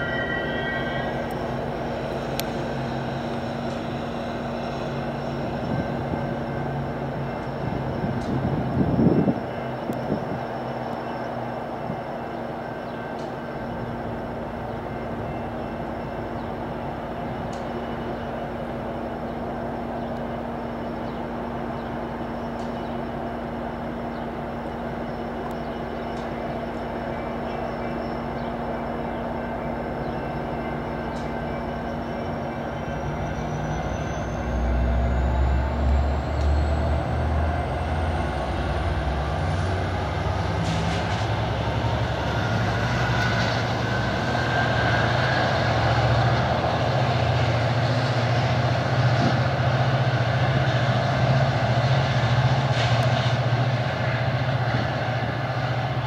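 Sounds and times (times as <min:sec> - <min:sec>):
diesel locomotive engine humming: 0:00.0 - 0:56.0
train wheel squeal: 0:00.0 - 0:56.0.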